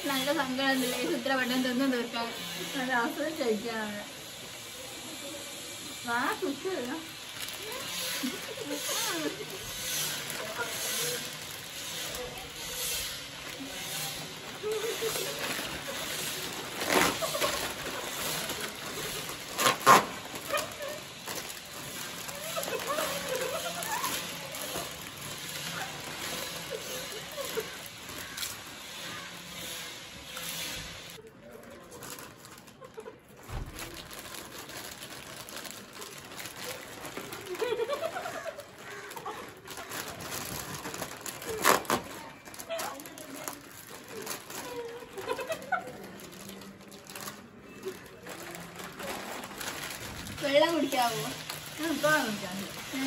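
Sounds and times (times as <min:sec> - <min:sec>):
foil packets crinkling: 0:00.0 - 0:53.0.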